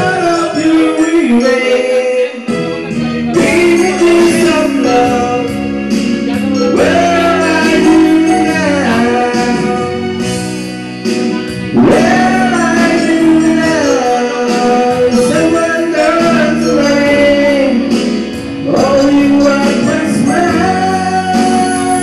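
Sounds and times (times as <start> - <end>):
man singing into microphone: 0.0 - 10.4, 11.2 - 22.0
backing music track: 0.0 - 22.0.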